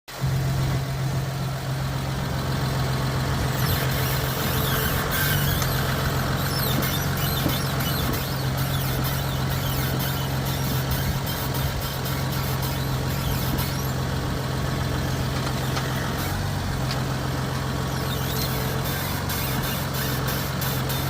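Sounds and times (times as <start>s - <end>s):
engine low hum: 0.1s - 21.0s
car steering squeaking: 3.3s - 21.0s.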